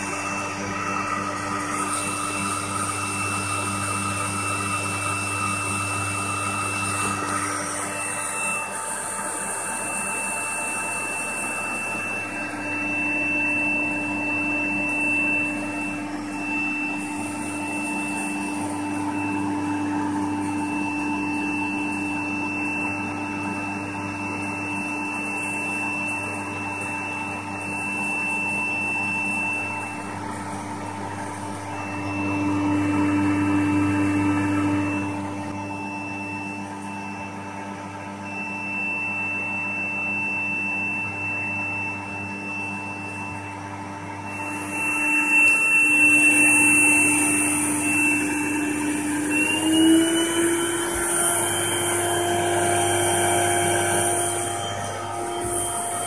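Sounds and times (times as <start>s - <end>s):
vacuum cleaner motor running: 0.0s - 56.0s
thin high whistle: 0.1s - 56.0s.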